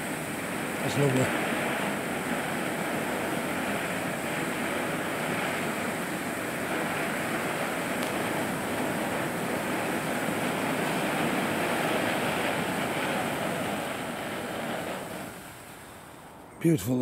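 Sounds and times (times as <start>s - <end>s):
fountain firework hissing: 0.0s - 16.5s.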